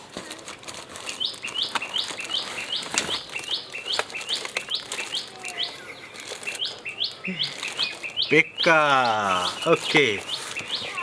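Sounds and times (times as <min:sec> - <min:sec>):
bird chirping: 0:01.0 - 0:11.0.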